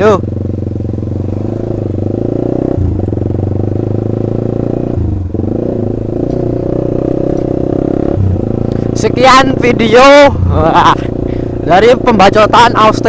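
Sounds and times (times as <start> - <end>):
motorcycle engine with loud exhaust: 0.0 - 13.0.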